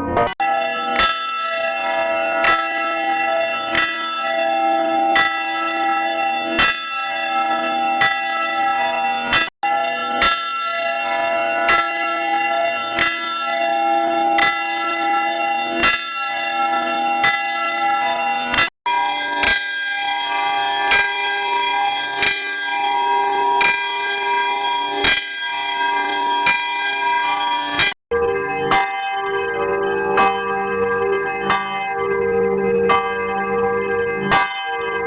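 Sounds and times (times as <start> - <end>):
church bell tolling: 0.0 - 35.0.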